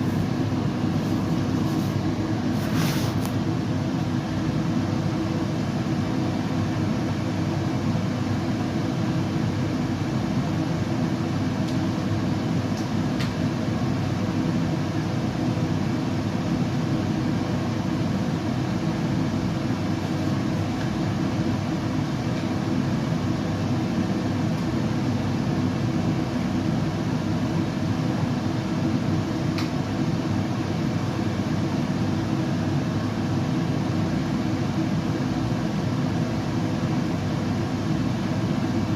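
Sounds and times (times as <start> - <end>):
low rumbling white noise: 0.0 - 38.9.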